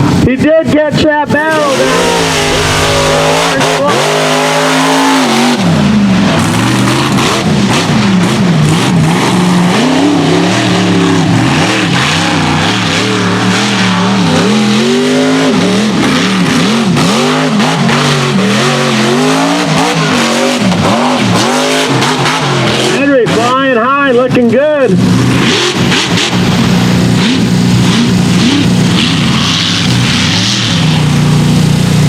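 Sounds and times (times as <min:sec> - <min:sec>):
truck engine revving unevenly: 0:01.2 - 0:32.0.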